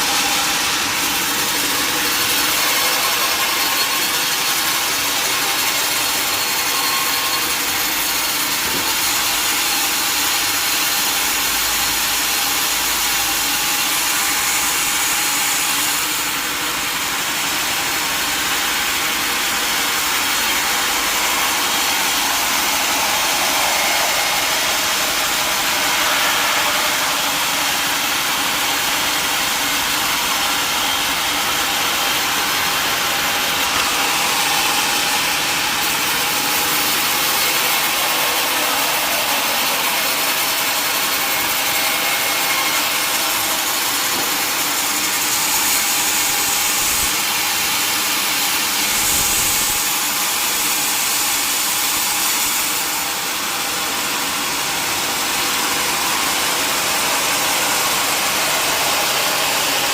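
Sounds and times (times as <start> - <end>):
sawmill saw cutting wood: 0.0 - 59.9.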